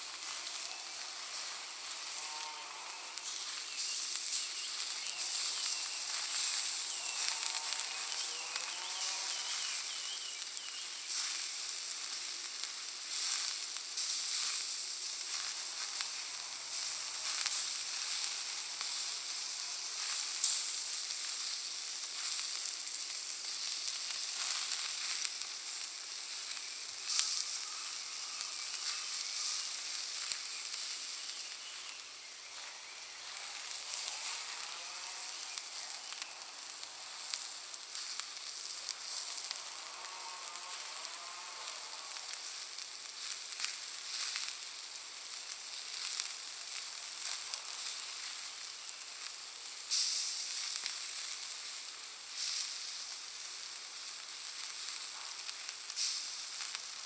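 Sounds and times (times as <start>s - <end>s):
bonfire crackling and popping: 0.0s - 57.0s
fire sizzling hiss: 0.0s - 57.0s.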